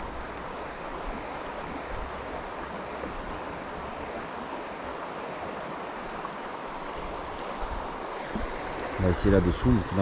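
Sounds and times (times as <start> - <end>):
running water: 0.0 - 10.0
wind: 0.0 - 10.0.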